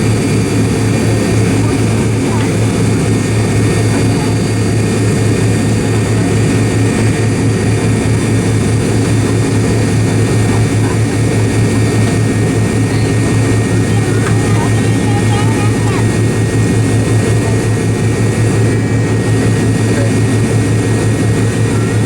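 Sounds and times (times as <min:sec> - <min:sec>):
faint high whine: 0:00.0 - 0:22.0
jet engine cabin hum: 0:00.0 - 0:22.0.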